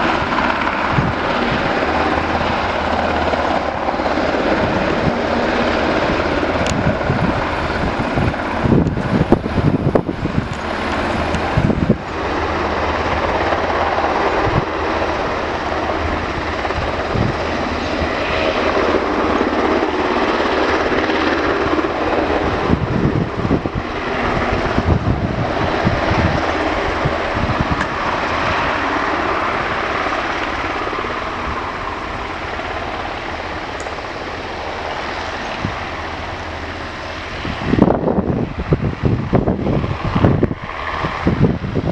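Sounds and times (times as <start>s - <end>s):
helicopter running: 0.0s - 41.9s.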